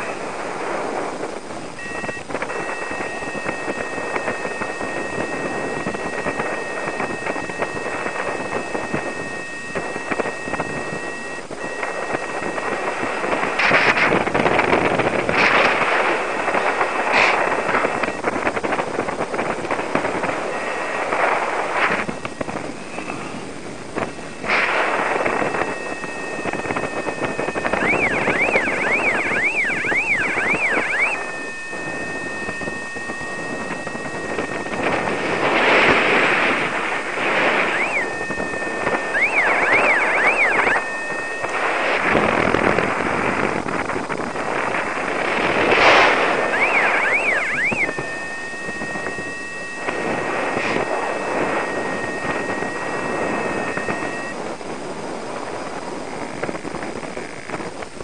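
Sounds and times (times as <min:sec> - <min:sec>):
wind rushing over microphone: 0:00.0 - 0:58.0
high warbling electronic tone: 0:01.7 - 0:54.4.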